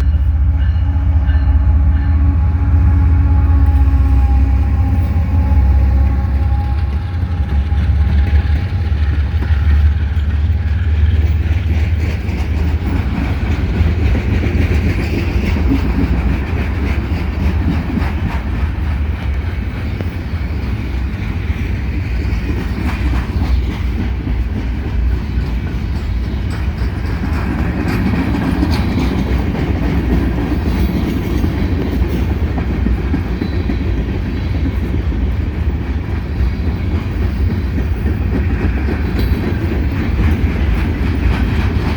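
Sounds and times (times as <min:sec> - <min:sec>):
train wheels rumbling on rails: 0:00.0 - 0:41.9
wheels clacking over rail joints: 0:03.7 - 0:41.9.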